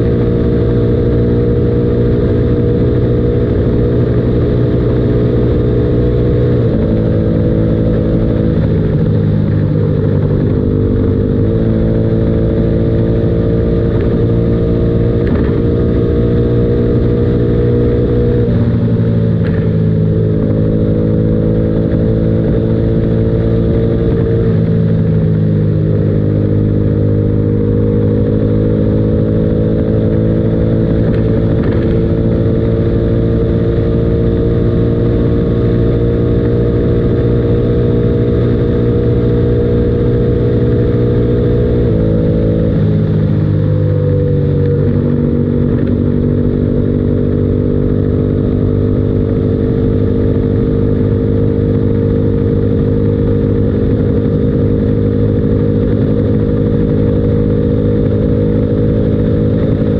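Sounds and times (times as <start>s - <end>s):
motorcycle engine running hard: 0.0s - 59.9s.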